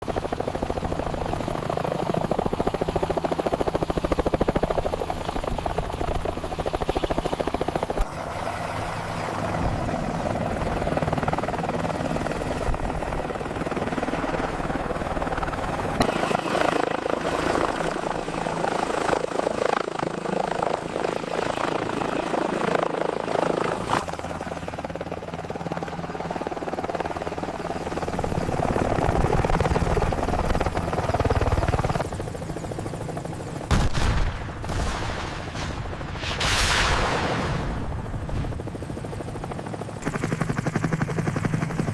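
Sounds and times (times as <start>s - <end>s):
helicopter engine noise: 0.0s - 34.8s, 35.4s - 41.9s
helicopter rotor chop: 0.0s - 41.9s.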